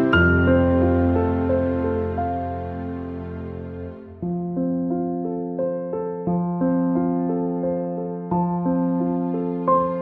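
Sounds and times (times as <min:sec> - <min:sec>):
gentle piano-like keyboard music: 0:00.0 - 0:10.0.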